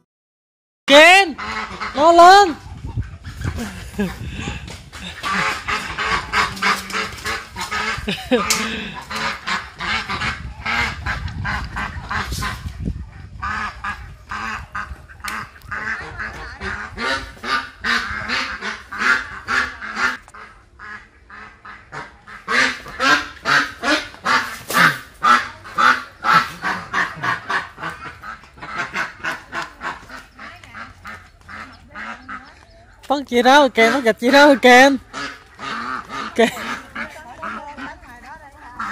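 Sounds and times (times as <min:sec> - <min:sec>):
ducks quacking: 0:01.2 - 0:38.9.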